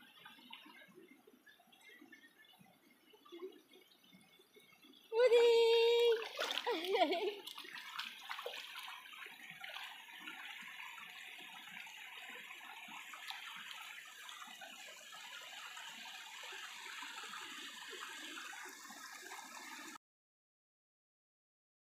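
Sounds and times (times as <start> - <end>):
stream water running over rocks: 0.0 - 20.0.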